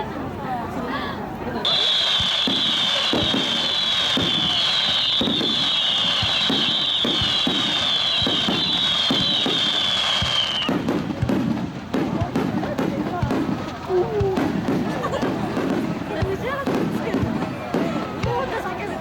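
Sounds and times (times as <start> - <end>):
fireworks low bangs: 1.6 - 19.0.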